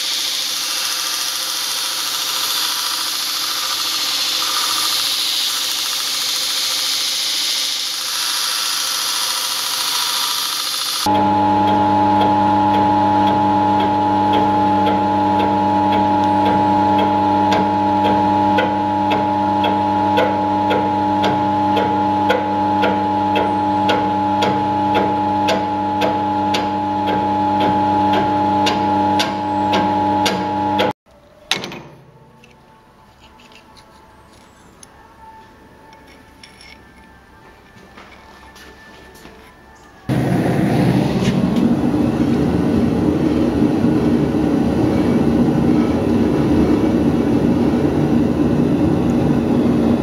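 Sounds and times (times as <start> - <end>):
workshop machine humming: 0.0 - 50.0.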